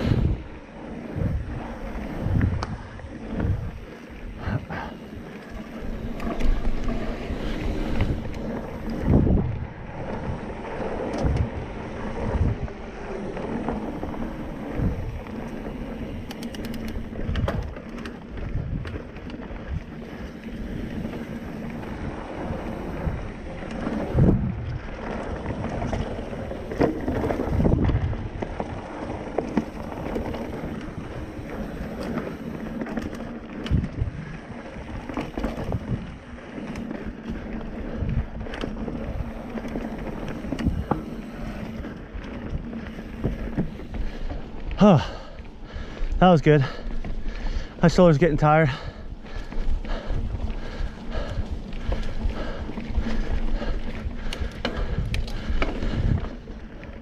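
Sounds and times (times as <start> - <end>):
bike tyres rumbling on dirt: 0.0 - 57.0
wind buffeting microphone: 0.0 - 57.0.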